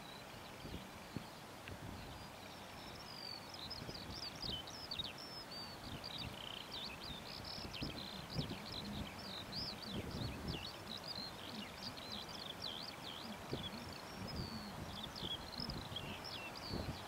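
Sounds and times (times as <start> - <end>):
songbird warbling: 2.0 - 17.0.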